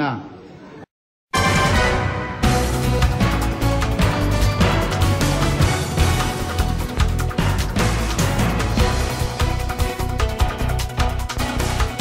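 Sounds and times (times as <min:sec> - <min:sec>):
news theme music with drums and bass: 0:01.3 - 0:12.0.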